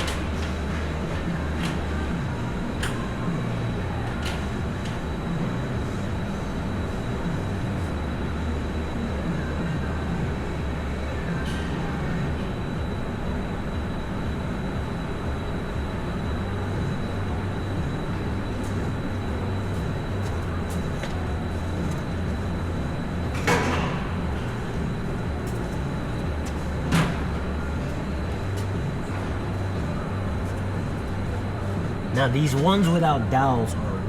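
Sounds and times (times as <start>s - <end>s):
high whine: 0.0s - 34.0s
low mechanical hum: 0.0s - 34.0s.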